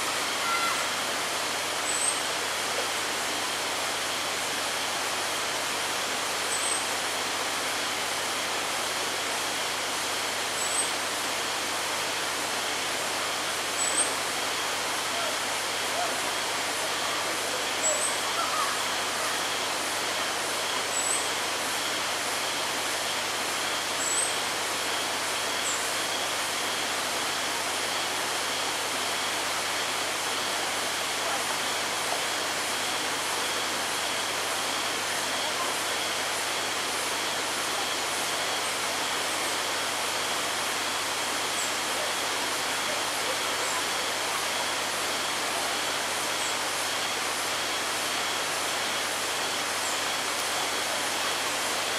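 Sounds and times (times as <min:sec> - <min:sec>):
even outdoor hiss: 0:00.0 - 0:51.9.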